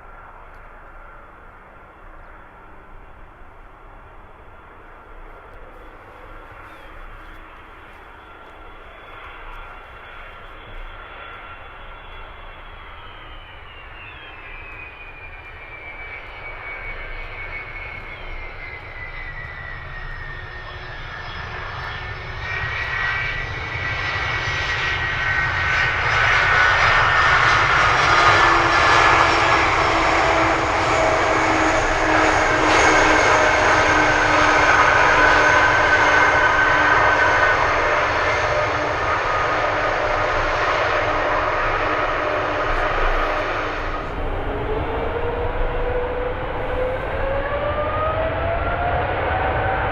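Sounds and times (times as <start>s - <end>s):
jet engines roaring and whining: 0.0s - 49.9s.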